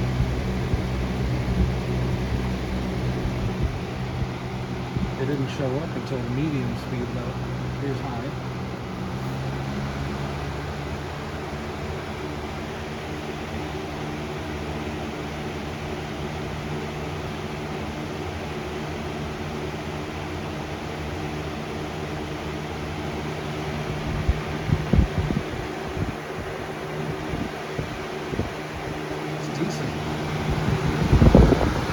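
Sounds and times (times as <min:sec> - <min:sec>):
box fan air rush: 0:00.0 - 0:31.9
low motor hum: 0:00.0 - 0:31.9.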